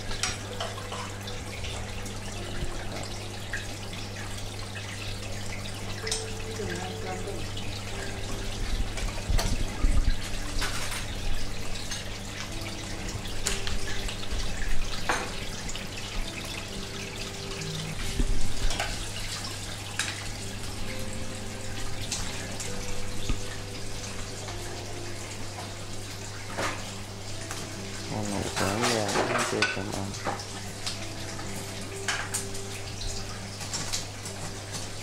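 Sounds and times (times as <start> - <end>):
aquarium water bubbling: 0.0 - 35.0.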